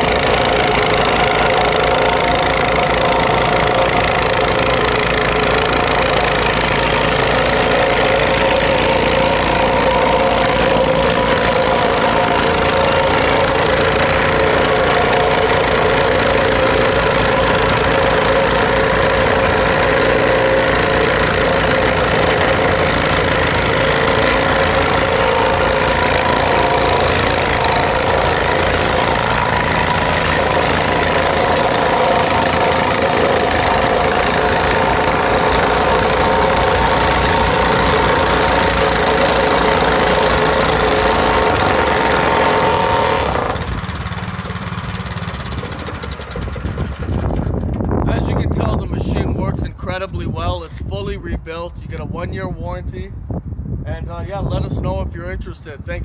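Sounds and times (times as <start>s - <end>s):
gas engine running: 0.0s - 48.9s
compactor plate vibrating on asphalt: 0.0s - 49.4s.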